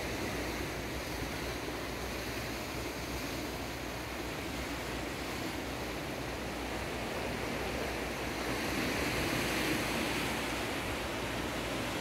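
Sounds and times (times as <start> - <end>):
sea surf breaking on shore: 0.0 - 12.0.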